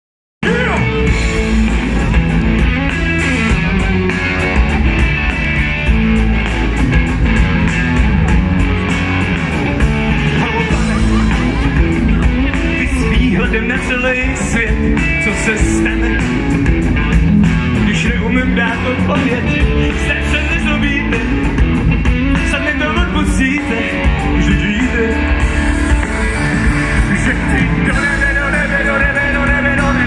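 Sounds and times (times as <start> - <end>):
live rock band playing: 0.4 - 30.0.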